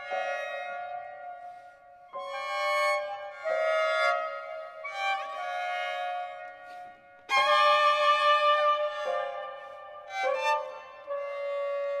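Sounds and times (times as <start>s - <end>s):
violin: 0.0s - 12.0s.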